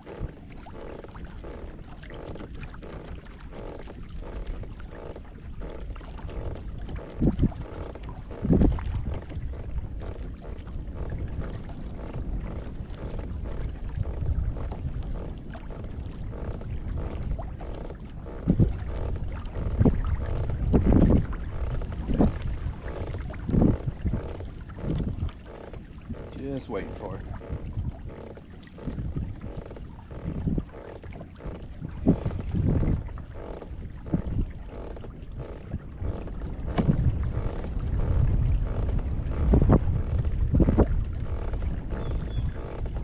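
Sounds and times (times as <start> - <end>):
water around kayak: 0.0 - 43.0
wind rumble on microphone: 0.0 - 43.0.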